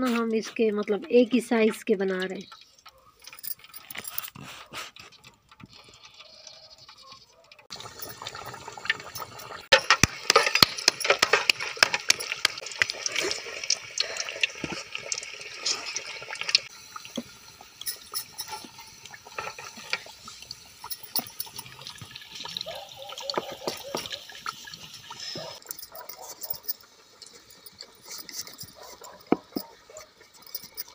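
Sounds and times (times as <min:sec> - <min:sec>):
food deep-frying in oil: 0:00.0 - 0:03.7, 0:04.8 - 0:30.9.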